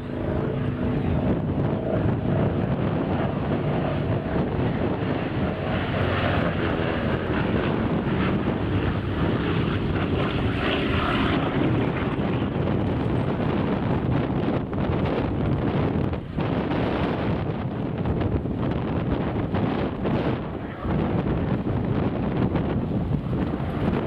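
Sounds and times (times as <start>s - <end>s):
airplane engines humming: 0.0s - 24.0s
wind on microphone: 0.0s - 24.0s.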